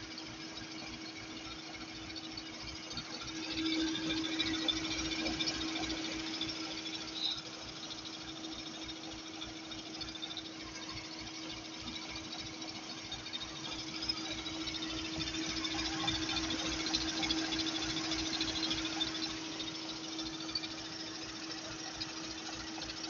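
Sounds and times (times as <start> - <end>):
engine whine: 0.1 - 23.0
car engine idling: 0.2 - 23.0.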